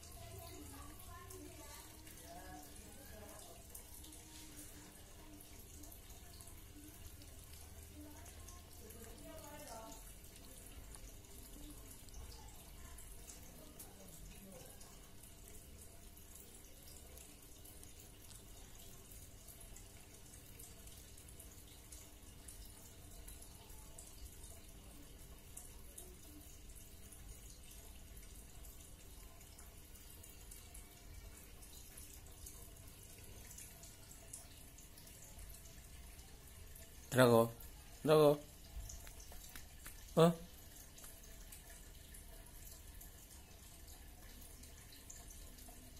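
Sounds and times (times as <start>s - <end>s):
soft hiss with low hum: 0.0s - 45.9s.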